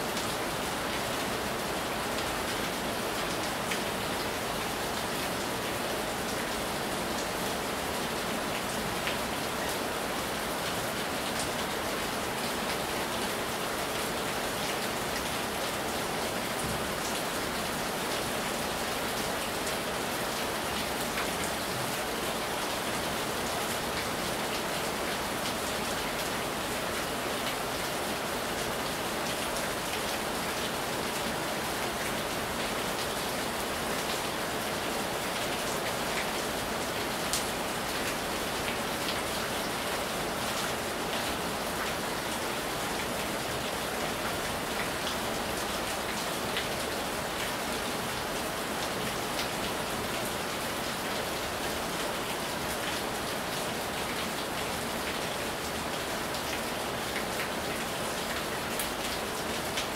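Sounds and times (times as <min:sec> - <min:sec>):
heavy rain on tiled porch: 0:00.0 - 0:59.9.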